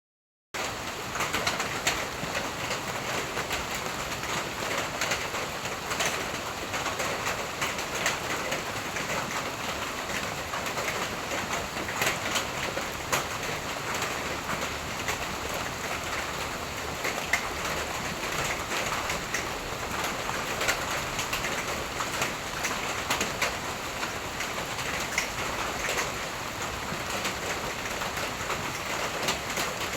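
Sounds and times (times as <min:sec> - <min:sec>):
steady rain falling: 0:00.6 - 0:29.9.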